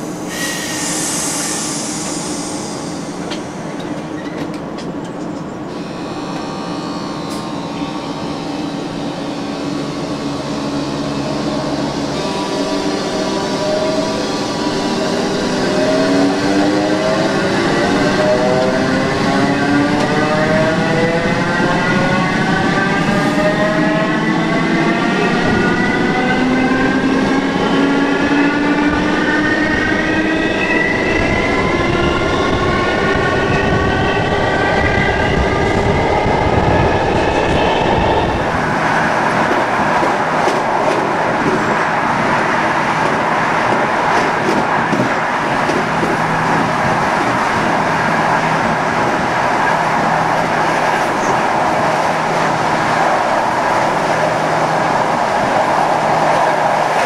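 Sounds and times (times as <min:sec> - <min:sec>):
train rushing running noise: 0:00.0 - 0:57.0.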